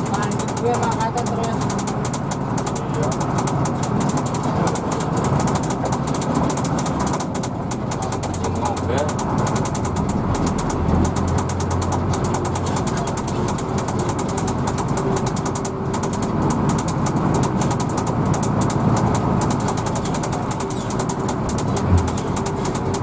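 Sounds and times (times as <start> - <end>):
bus diesel engine droning: 0.0 - 23.0
rapid high-pitched ticking: 0.0 - 23.0.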